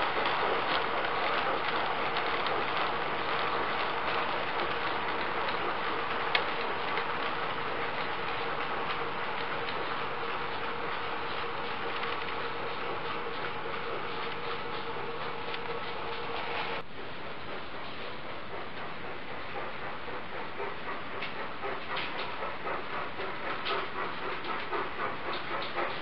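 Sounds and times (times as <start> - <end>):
model train wheels rattling: 0.0 - 16.6, 18.3 - 26.0.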